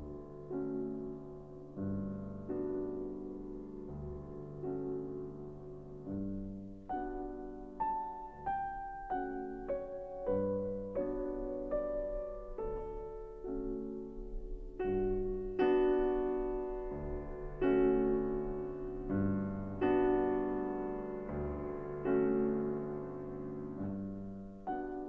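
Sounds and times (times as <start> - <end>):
slow piano chords: 0.0 - 25.0.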